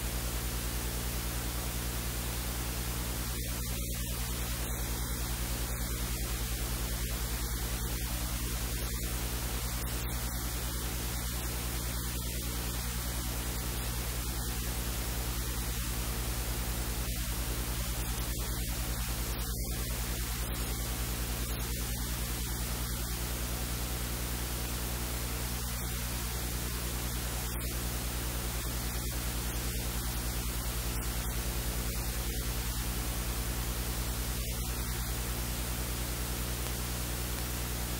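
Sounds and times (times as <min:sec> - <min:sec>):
electrical mains hum: 0:00.0 - 0:37.9
static hiss: 0:00.0 - 0:37.9.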